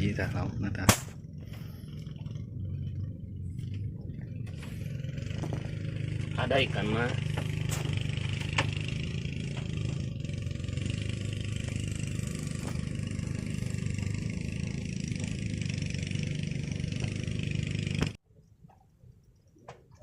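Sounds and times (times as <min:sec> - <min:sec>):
boat engine humming: 0:00.0 - 0:18.2.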